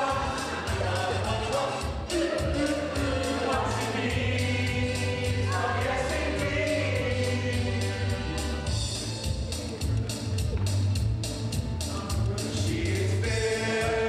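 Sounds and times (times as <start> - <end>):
voices singing over a beat: 0.0 - 11.0, 11.8 - 14.0.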